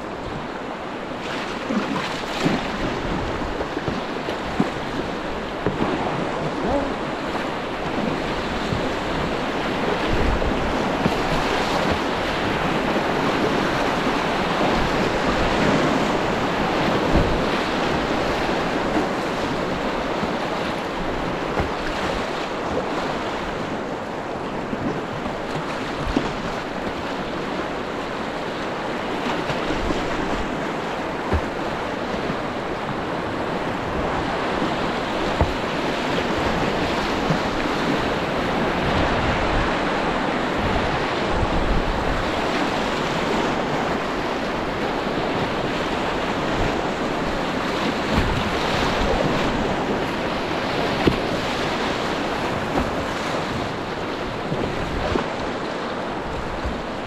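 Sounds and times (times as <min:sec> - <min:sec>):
rushing white water: 0:00.0 - 0:57.0
wind buffeting microphone: 0:00.0 - 0:57.0
paddle splashes and knocks: 0:01.1 - 0:57.0.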